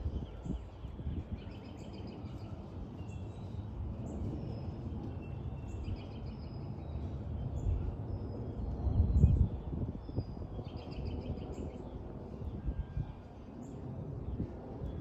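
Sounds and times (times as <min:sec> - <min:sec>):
jet engines rumbling overhead: 0:00.0 - 0:15.0
small birds chirping: 0:00.0 - 0:15.0.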